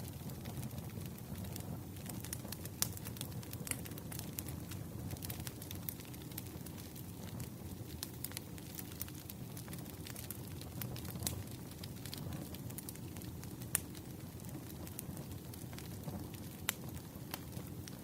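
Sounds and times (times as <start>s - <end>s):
low rumble of burning logs: 0.0s - 18.0s
wood fire crackling: 0.0s - 18.0s.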